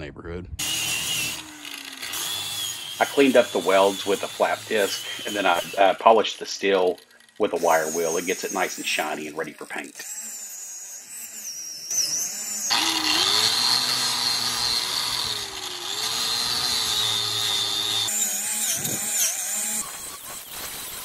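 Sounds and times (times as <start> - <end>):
wire wheel grinder on steel: 0.6 - 21.0.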